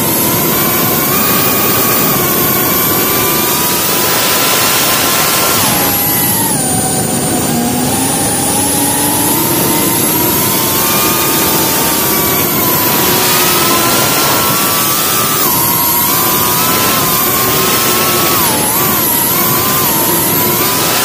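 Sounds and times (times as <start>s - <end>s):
drone motors whining: 0.0s - 21.0s
rush of prop wash: 0.0s - 21.0s.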